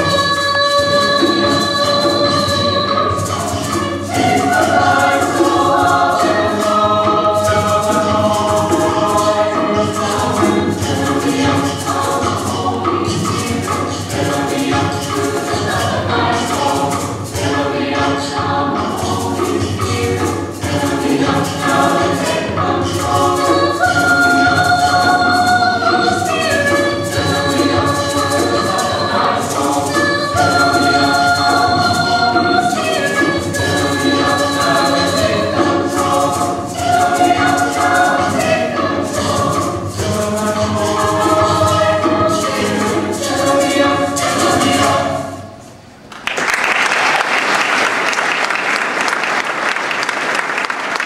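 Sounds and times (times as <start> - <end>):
mixed choir singing in harmony: 0.0 - 46.0.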